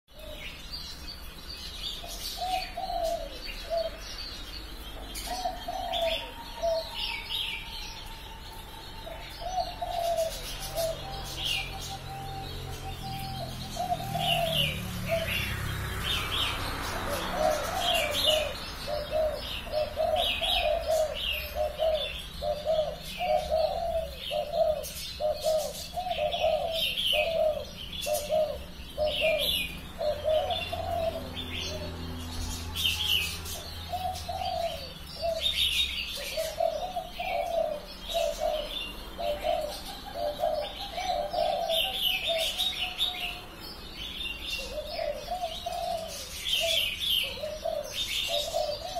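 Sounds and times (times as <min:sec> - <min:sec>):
small birds chirping: 0:00.0 - 0:48.9
dove cooing: 0:00.1 - 0:00.7, 0:01.7 - 0:48.9.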